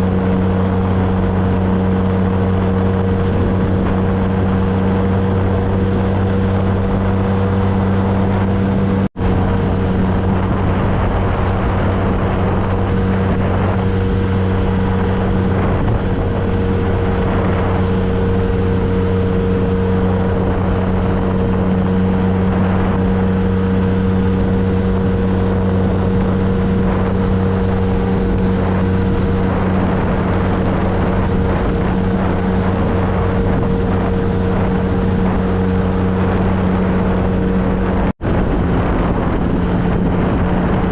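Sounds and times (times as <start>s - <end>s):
motorcycle engine cruising: 0.0s - 40.9s
road and wind noise: 0.0s - 40.9s.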